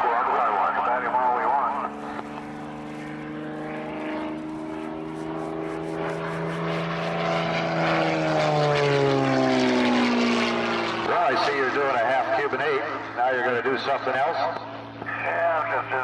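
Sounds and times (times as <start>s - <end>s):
propeller airplane flying past: 0.0s - 16.0s.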